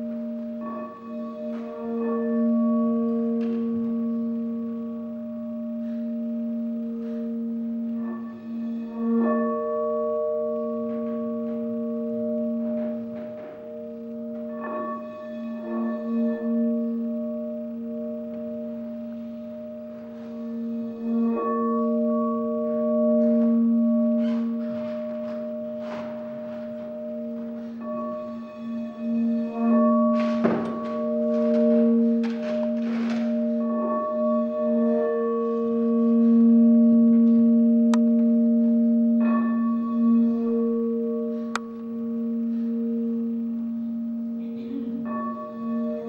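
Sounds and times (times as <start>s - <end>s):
crystal singing bowl ringing: 0.0s - 46.0s.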